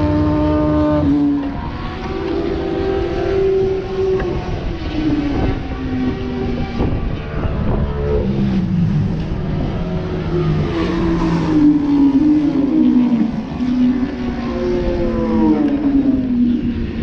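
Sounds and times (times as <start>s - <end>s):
motorcycle engines running: 0.0s - 17.0s
steady low rumble: 0.0s - 17.0s.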